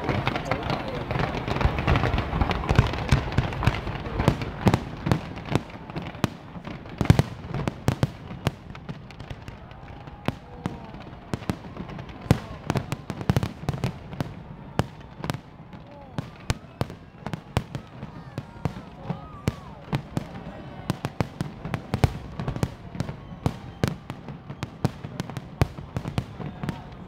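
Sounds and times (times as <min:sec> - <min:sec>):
crowd voices: 0:00.0 - 0:27.0
fireworks bangs and crackles: 0:00.0 - 0:27.0.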